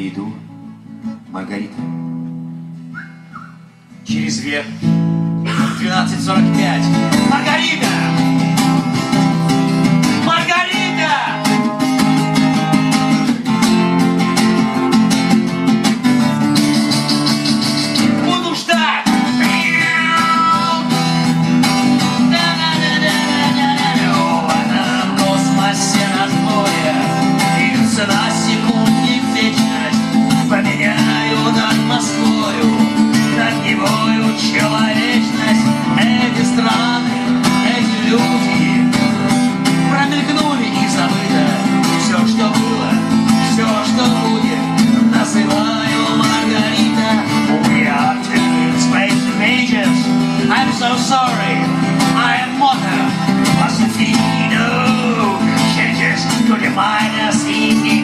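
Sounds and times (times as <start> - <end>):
acoustic guitar strumming: 0.0 - 58.0
man singing: 4.0 - 13.6, 17.8 - 58.0.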